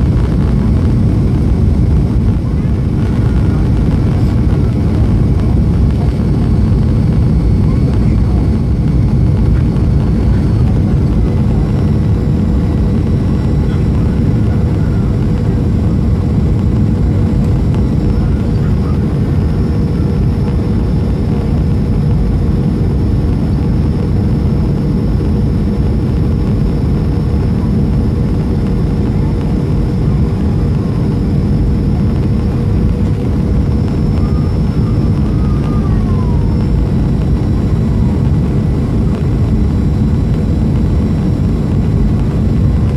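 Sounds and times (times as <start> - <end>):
airliner cabin engine roar: 0.0 - 42.9
constant hum: 0.0 - 42.9.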